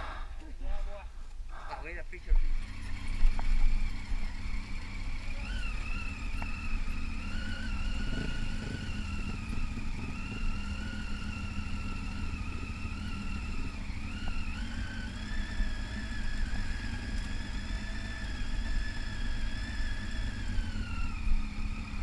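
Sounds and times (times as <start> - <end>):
motorcycle engine and wind rumble: 2.2 - 22.0.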